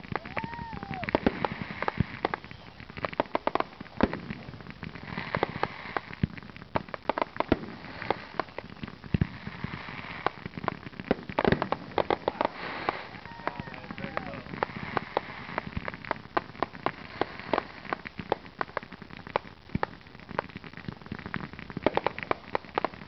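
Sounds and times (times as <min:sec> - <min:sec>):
fireworks bangs and pops: 0:00.0 - 0:23.0
fireworks crackling: 0:00.0 - 0:23.0.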